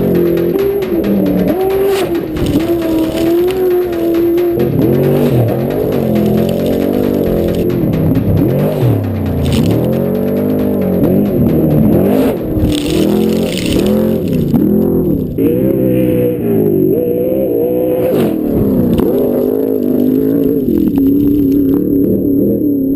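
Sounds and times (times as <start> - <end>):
rushing noise: 0.0 - 21.7
truck engine revving hard: 0.0 - 22.9.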